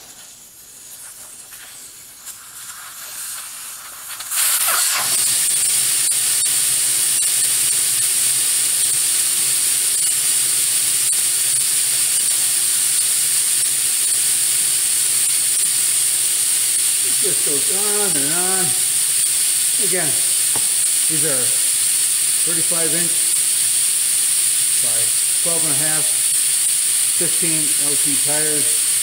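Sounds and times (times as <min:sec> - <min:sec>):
air hissing from tire: 0:00.0 - 0:29.0.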